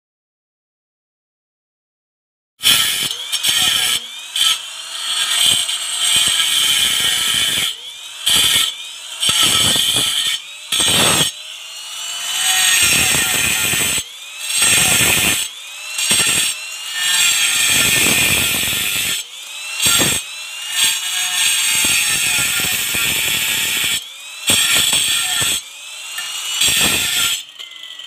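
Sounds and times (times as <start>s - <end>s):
angle grinder cutting stone: 2.6s - 28.0s.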